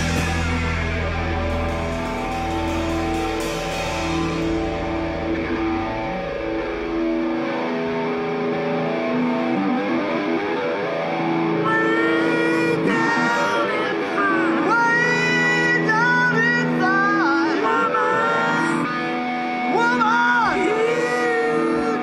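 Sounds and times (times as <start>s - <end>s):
lead guitar line with bending pitch: 0.0s - 22.0s
live rock band: 0.0s - 22.0s.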